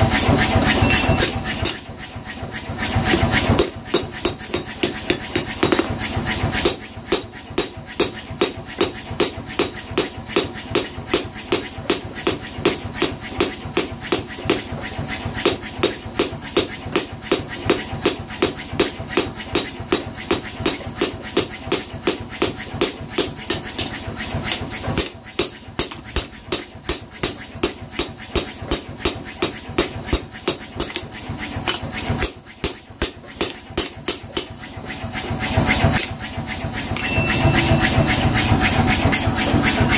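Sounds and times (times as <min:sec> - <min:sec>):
hammer striking steel on anvil: 0:00.6 - 0:01.9, 0:03.6 - 0:14.8, 0:15.4 - 0:34.6, 0:36.9 - 0:39.6.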